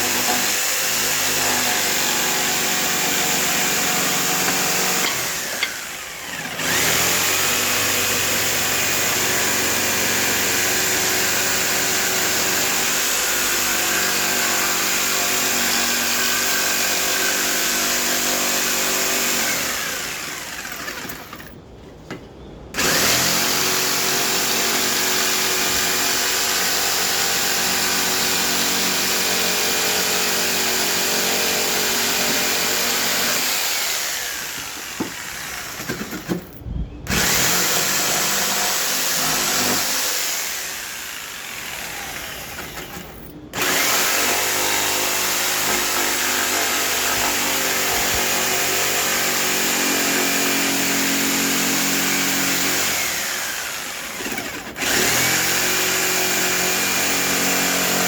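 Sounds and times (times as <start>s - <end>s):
electric power saw running: 0.0s - 21.5s, 22.8s - 36.4s, 37.1s - 58.0s.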